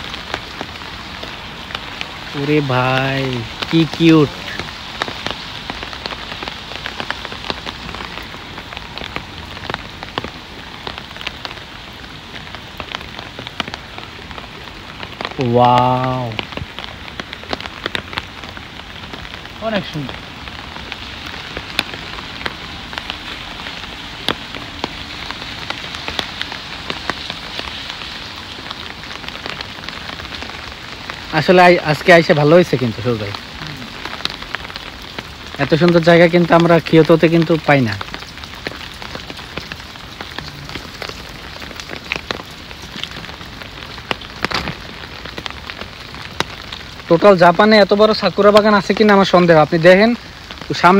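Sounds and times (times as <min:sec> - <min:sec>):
raindrops ticking on a surface: 0:00.0 - 0:50.9
steady rain falling: 0:00.0 - 0:50.9.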